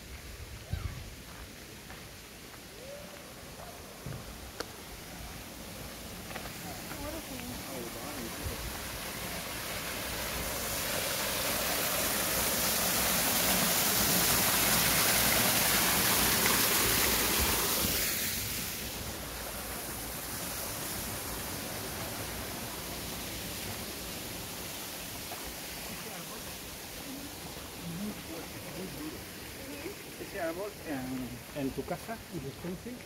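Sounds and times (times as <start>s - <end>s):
waterfall splashing: 0.0s - 33.0s.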